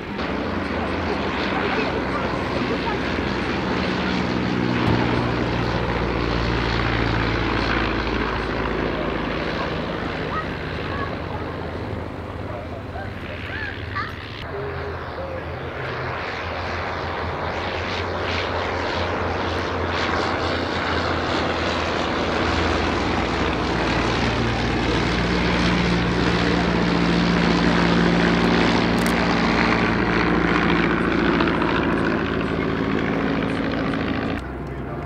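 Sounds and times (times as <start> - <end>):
propeller plane engines droning: 0.0 - 35.0.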